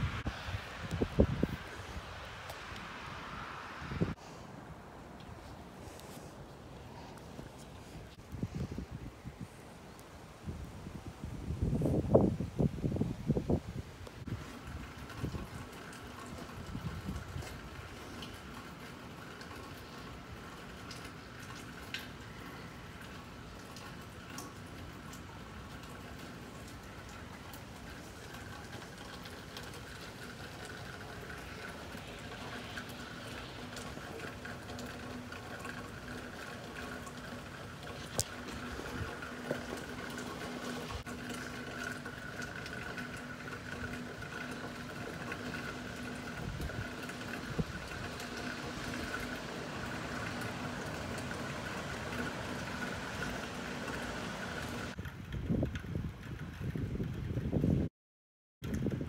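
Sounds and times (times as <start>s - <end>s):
steady rain falling: 0.0s - 8.4s, 9.0s - 55.8s.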